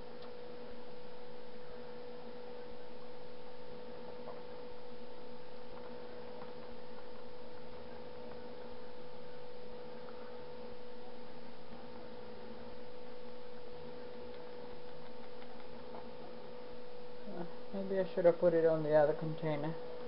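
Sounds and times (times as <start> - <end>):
pulsing electrical hum: 0.0 - 20.0.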